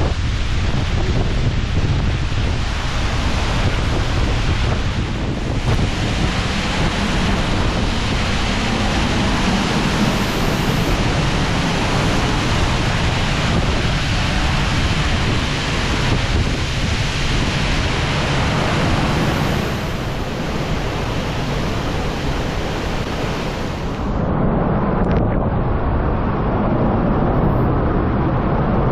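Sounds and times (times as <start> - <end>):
waterfall rushing with deep rumble: 0.0 - 28.9.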